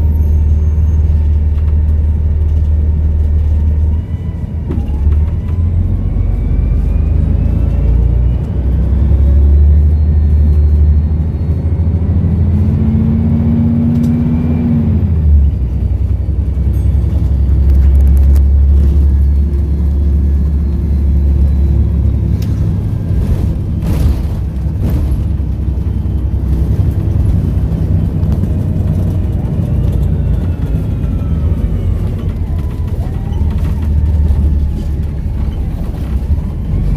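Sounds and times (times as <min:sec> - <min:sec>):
diesel bus engine rumbling: 0:00.0 - 0:36.9.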